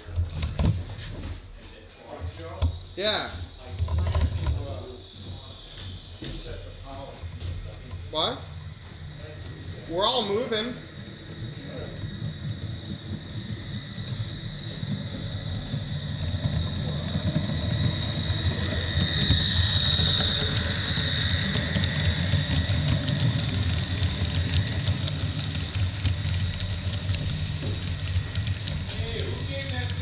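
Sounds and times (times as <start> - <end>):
model train motor whine: 2.2 - 30.0
wheels clicking on track: 3.4 - 30.0.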